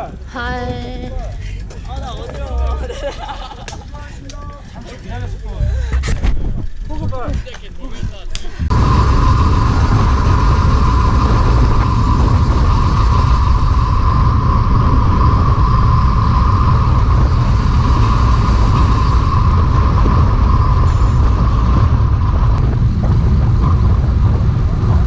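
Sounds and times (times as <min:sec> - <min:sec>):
constant mid-pitched hum: 0:00.0 - 0:25.0
wind buffeting microphone: 0:00.0 - 0:25.0.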